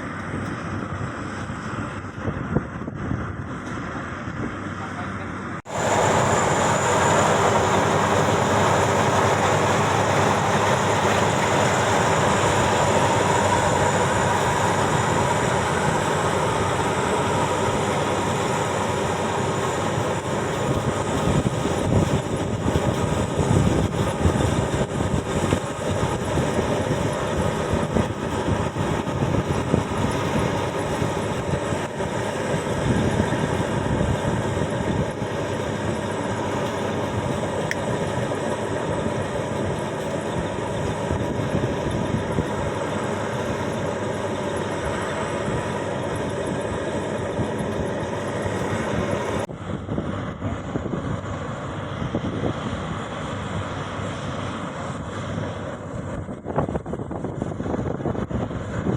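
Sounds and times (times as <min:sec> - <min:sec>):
combine harvester running: 0:00.0 - 0:58.9.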